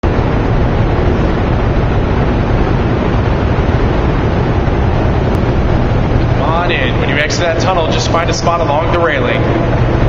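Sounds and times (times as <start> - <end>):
generators humming: 0.0 - 10.0.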